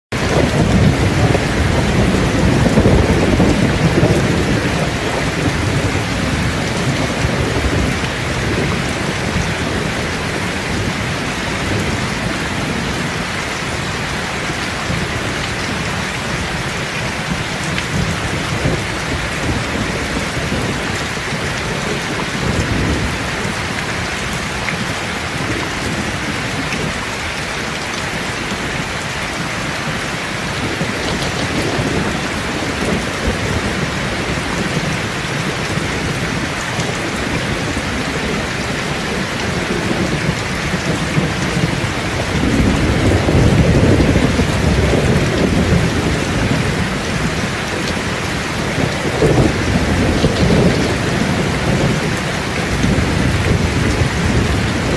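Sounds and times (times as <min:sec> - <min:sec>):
heavy rain pouring: 0:00.1 - 0:54.9
low thunder rumbles: 0:00.1 - 0:54.9.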